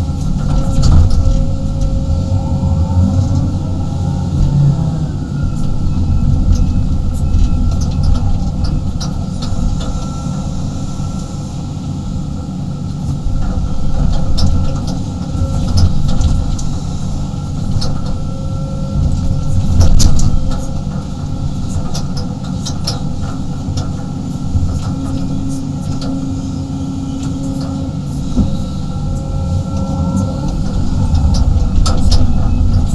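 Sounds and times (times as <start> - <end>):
excavator diesel engine and hydraulics: 0.0 - 32.9.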